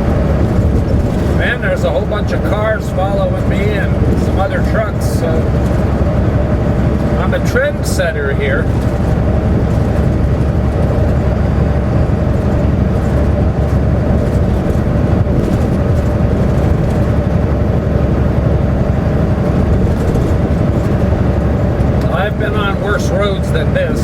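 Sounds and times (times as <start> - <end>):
truck engine drone and road rumble: 0.0 - 24.0.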